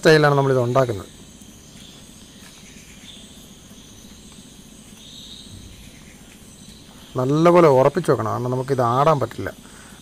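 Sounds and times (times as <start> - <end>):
faint low rumble: 0.0 - 9.9
crickets chirping: 0.0 - 10.0.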